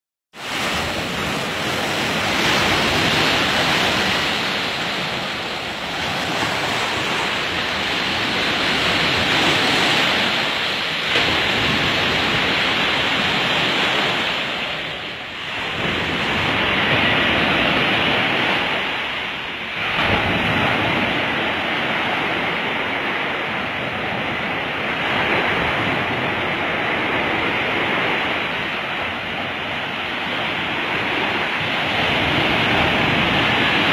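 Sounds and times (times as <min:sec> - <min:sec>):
rough sea surf breaking: 0:00.4 - 0:33.9.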